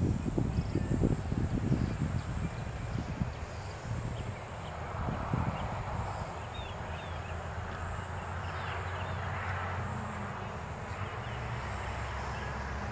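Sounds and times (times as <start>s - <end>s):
small birds chirping: 0.2s - 12.5s.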